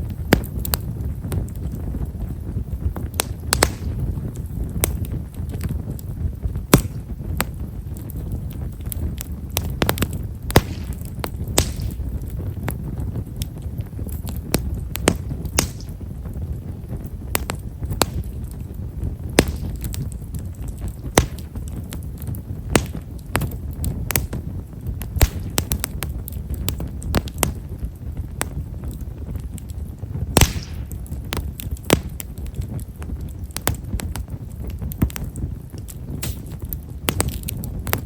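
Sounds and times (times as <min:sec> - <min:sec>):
campfire crackling pops: 0:00.0 - 0:38.0
low fire rumble: 0:00.0 - 0:38.0.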